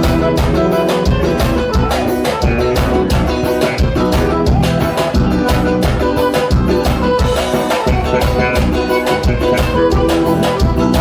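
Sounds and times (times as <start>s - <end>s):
steady kick drum beat: 0.0s - 11.0s
upbeat band music: 0.0s - 11.0s.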